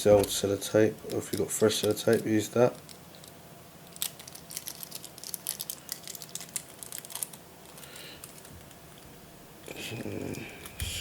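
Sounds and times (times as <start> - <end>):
tape crackling and clicking: 0.0 - 11.0.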